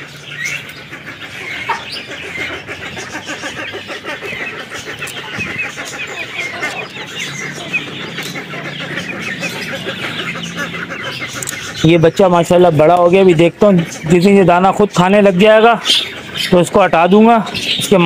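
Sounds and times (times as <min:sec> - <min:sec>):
birds chirping: 0:00.0 - 0:18.0
hens clucking: 0:00.0 - 0:18.0.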